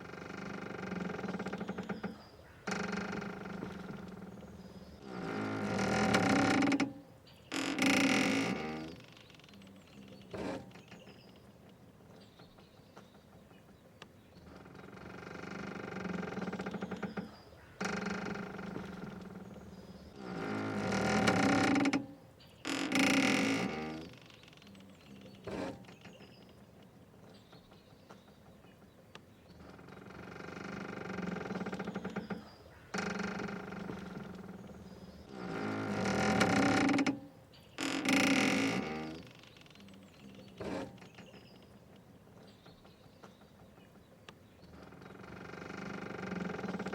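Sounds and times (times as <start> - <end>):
rope creaking under strain: 0.0 - 11.2, 14.4 - 26.6, 29.6 - 41.7, 44.7 - 46.9.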